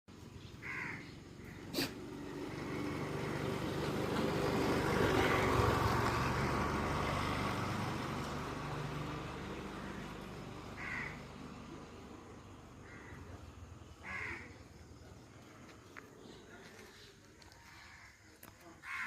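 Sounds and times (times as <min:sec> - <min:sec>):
vehicle passing by: 0:00.2 - 0:18.1.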